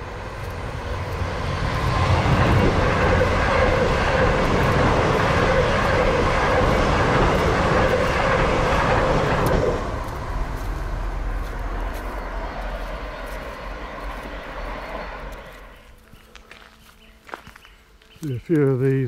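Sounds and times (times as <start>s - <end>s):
electric train running past: 0.0s - 17.2s.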